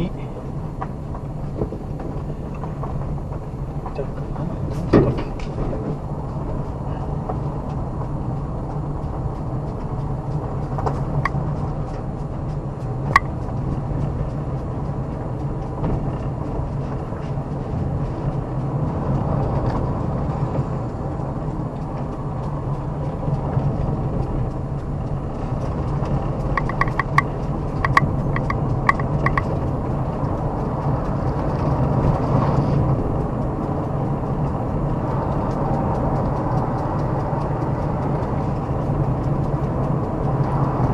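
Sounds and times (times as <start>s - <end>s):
car engine hum and road noise: 0.0s - 40.9s
sharp clicks and ticks: 0.7s - 40.9s.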